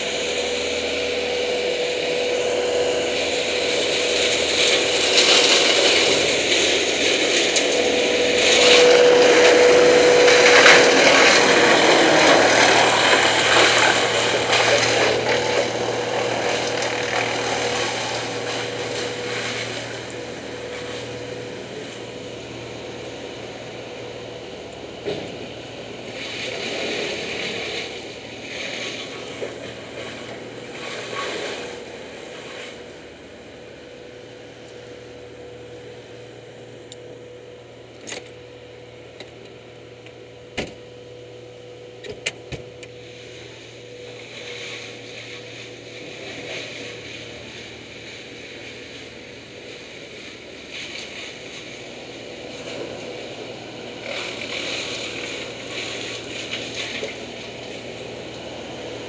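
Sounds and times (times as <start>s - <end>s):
branches crunching and grinding: 0.0s - 24.8s, 25.4s - 34.8s, 43.0s - 59.0s
brush chipper humming: 0.0s - 59.0s.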